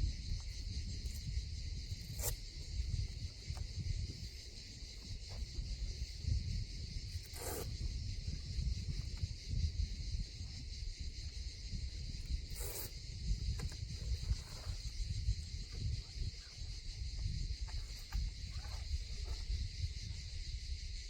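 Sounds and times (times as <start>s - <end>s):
insects droning: 0.0s - 21.0s
wind rumbling on microphone: 0.0s - 21.0s.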